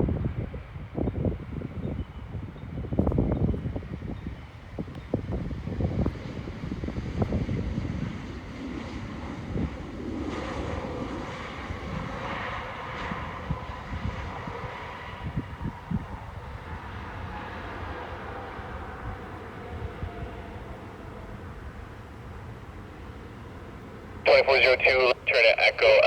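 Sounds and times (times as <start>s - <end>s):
wind buffeting the microphone: 0.0s - 12.2s, 12.8s - 22.2s
jet engines rushing with whine: 0.0s - 26.0s.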